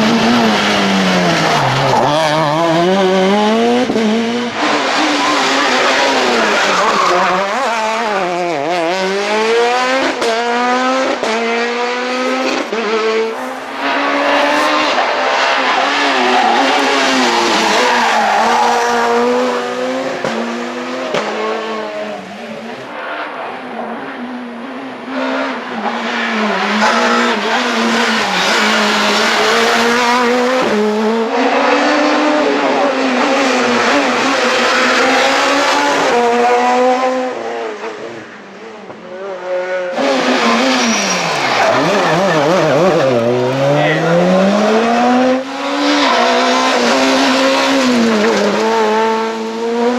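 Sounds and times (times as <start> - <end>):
rally car engines revving hard: 0.0 - 49.9.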